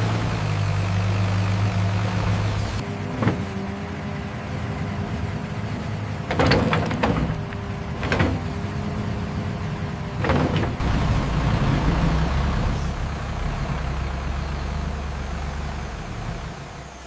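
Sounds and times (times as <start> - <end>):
diesel engine running: 0.0 - 17.0
loud mechanical noises: 0.0 - 17.0.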